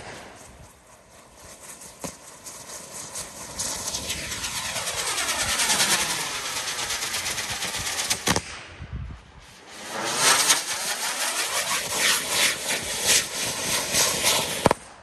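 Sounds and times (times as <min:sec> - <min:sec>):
firework motors rushing: 0:00.0 - 0:14.8.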